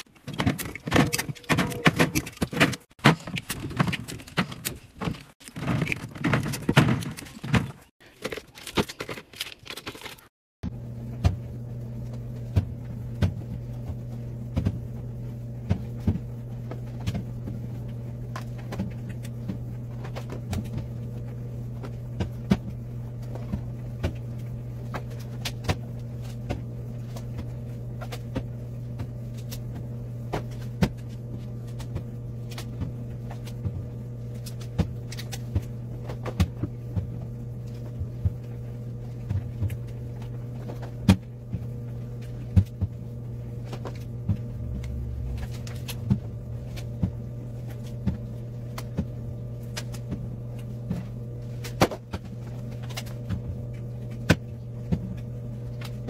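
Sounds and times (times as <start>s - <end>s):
refrigerator hum: 0.0s - 56.0s.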